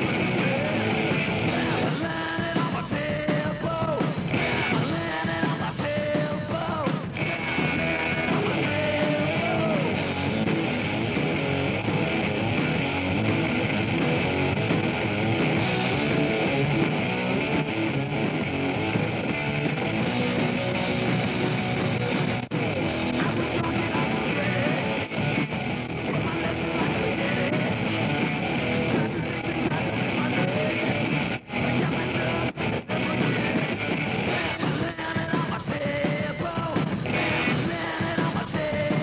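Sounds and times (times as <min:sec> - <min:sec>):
rock music with guitar: 0:00.0 - 0:39.0.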